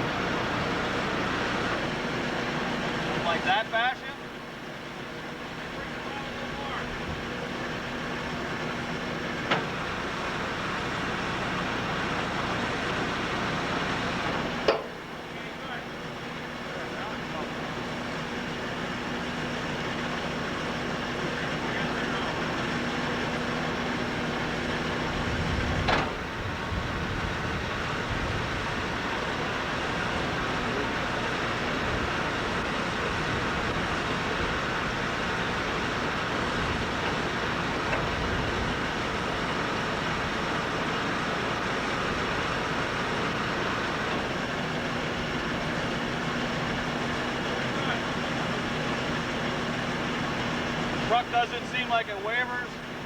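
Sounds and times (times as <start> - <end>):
heavy machinery running: 0.0 - 53.0.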